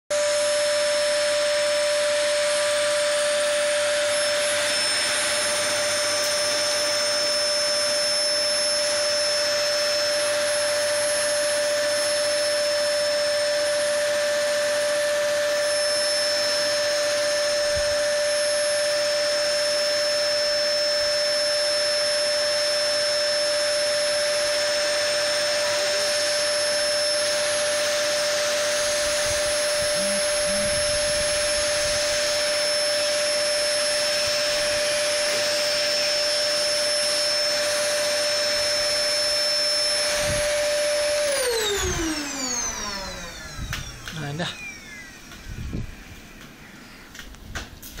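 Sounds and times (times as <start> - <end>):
vacuum cleaner running: 0.1 - 48.0.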